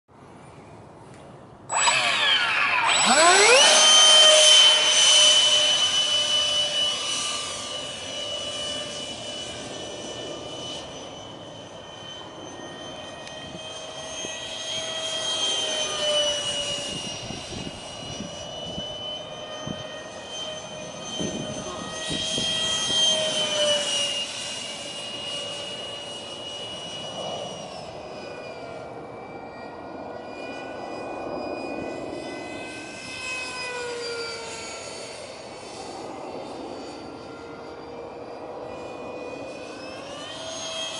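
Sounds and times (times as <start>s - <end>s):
model jet fan whine: 0.1s - 40.9s.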